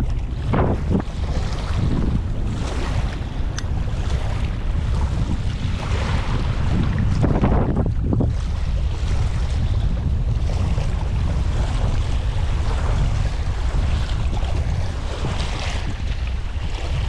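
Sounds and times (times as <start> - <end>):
waves washing at shore: 0.0 - 17.0
wind rumbling on microphone: 0.0 - 17.0.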